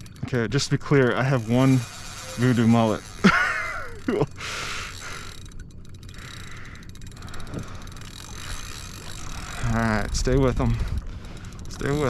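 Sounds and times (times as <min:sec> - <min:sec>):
fishing reel drag clicking: 0:00.0 - 0:12.0.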